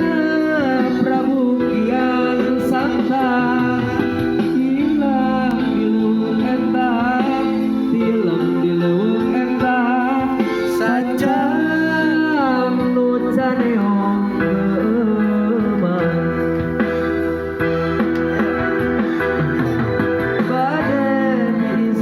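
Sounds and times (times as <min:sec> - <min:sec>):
guitar: 0:00.0 - 0:22.0
person singing: 0:00.0 - 0:22.0.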